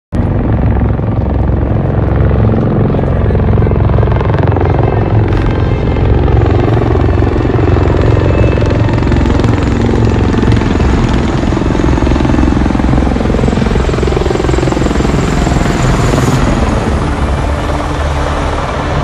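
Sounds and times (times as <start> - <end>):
tiltrotor aircraft rotor beating: 0.2 - 19.0.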